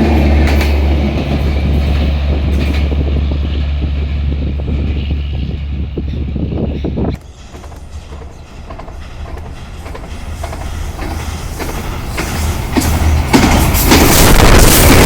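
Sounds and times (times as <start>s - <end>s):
express train approaching: 0.0s - 15.0s
train wheels clicking over rail joints: 0.0s - 15.0s.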